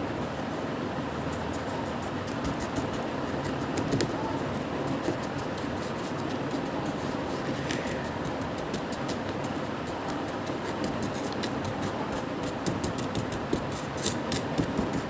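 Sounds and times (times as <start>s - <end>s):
rumbling background noise: 0.0s - 15.0s
hands shaping play dough: 1.1s - 15.0s.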